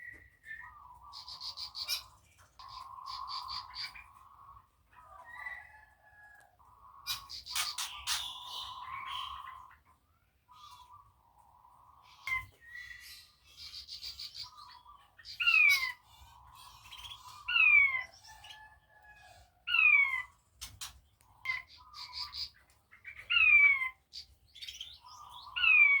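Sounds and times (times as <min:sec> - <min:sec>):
quail whistled calls: 0:00.0 - 0:09.9, 0:10.5 - 0:24.0, 0:24.6 - 0:26.0
soft bird chirps and twitters: 0:00.0 - 0:26.0.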